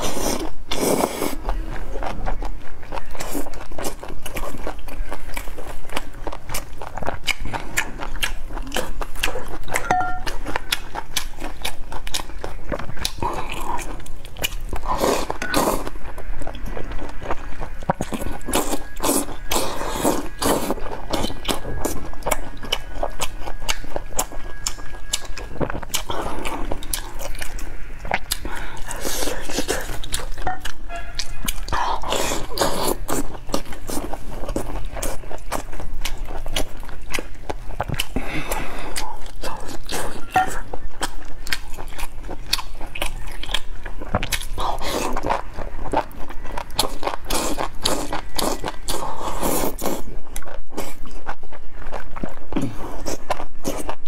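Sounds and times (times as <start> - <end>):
close-miked biting and chewing: 0.0 - 54.0.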